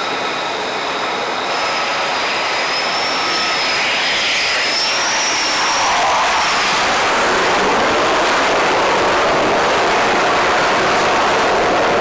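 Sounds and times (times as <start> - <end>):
jet engines whining: 0.0 - 12.0
jet passing low: 0.0 - 12.0.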